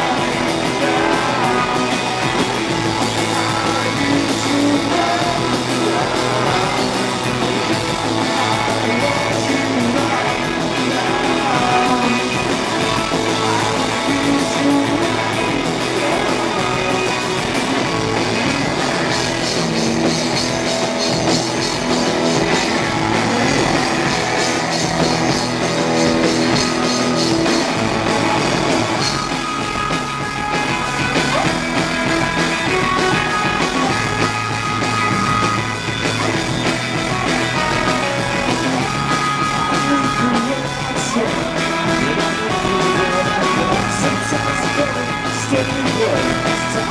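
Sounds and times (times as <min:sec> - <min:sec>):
drum kit: 0:00.0 - 0:46.9
electric guitars: 0:00.0 - 0:46.9.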